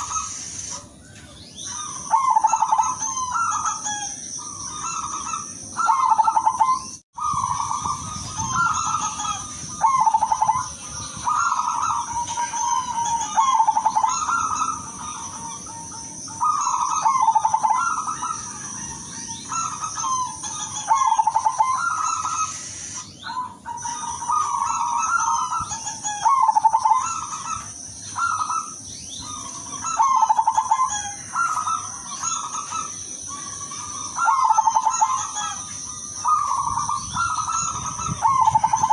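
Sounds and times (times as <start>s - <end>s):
dove cooing: 1.6s - 22.6s, 23.2s - 38.9s.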